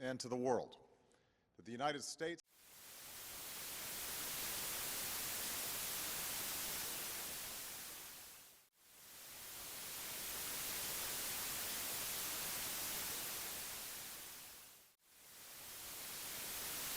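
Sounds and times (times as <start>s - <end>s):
static hiss: 2.5s - 16.9s.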